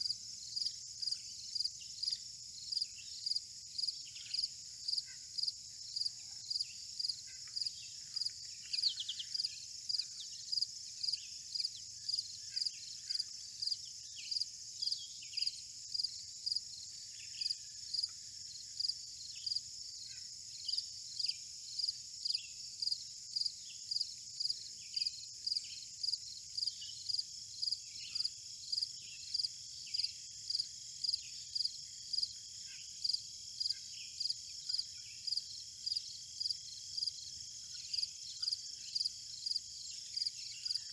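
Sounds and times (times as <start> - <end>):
insect chorus drone: 0.0 - 40.9
regular insect chirp: 0.0 - 40.9.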